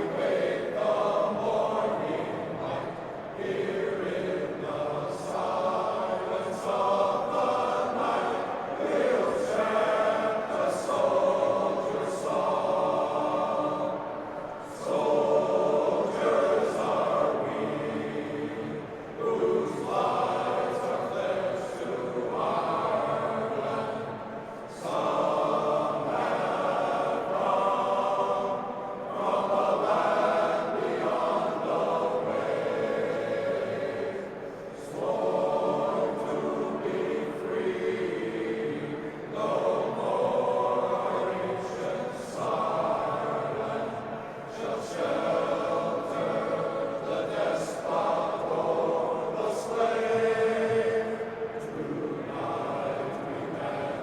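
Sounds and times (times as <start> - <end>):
men's choir singing: 0.0 - 54.0.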